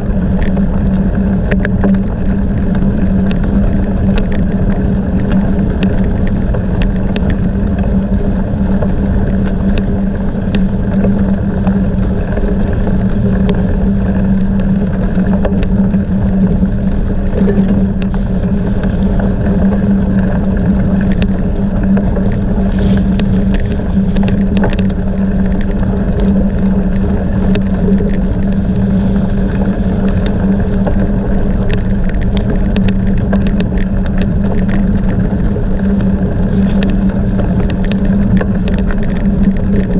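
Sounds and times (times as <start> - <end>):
bicycle rolling over gravel: 0.0 - 39.9
low drone: 0.0 - 39.9
small clicks and rattles: 0.0 - 39.9
wind noise: 0.0 - 39.9.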